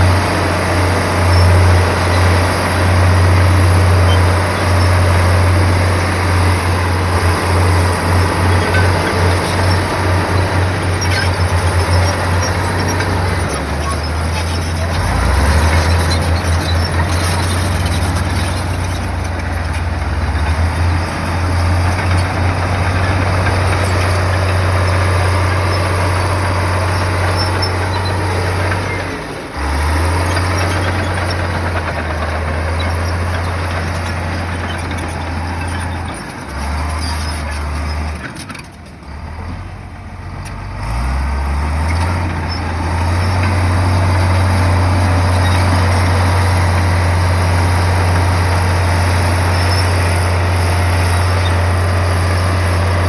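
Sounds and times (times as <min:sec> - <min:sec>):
diesel engine of earthmoving machine: 0:00.0 - 0:53.0.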